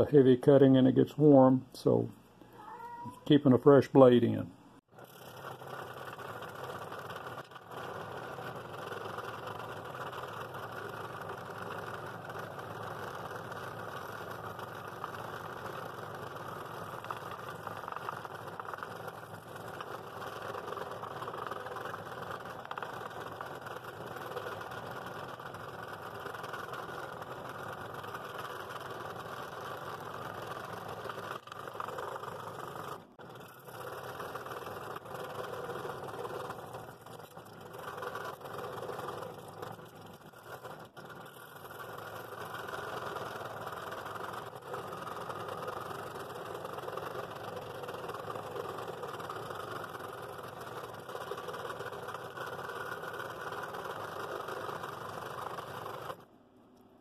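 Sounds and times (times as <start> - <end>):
scroll saw cutting wood: 4.9 - 56.3.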